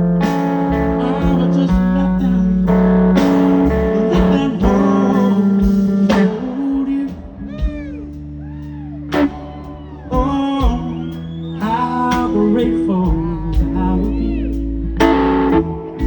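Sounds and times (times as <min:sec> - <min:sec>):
man singing: 0:00.0 - 0:08.1, 0:10.0 - 0:16.0
blues band playing: 0:00.0 - 0:16.0.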